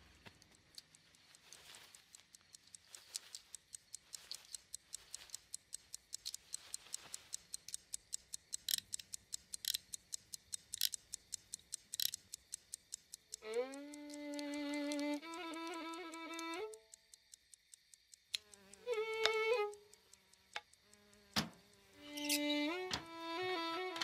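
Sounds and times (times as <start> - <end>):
pocket watch ticking: 0.0 - 24.0
loud clicks: 0.3 - 24.0.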